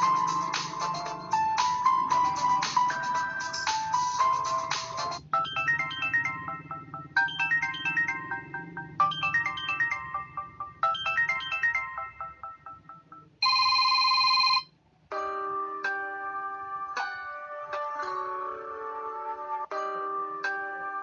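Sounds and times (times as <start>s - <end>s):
synthesized ringtone melody: 0.0s - 21.0s.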